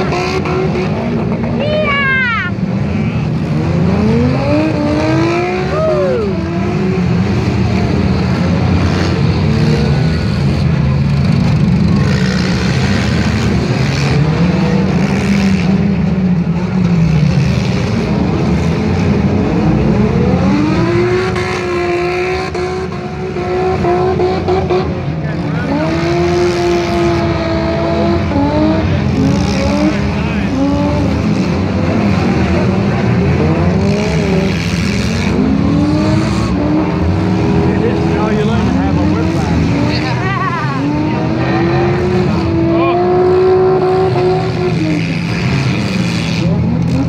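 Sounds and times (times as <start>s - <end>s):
car engines revving: 0.0s - 47.0s.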